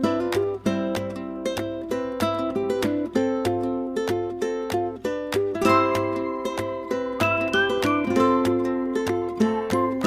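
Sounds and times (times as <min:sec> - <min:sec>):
strummed string instrument: 0:00.0 - 0:10.0.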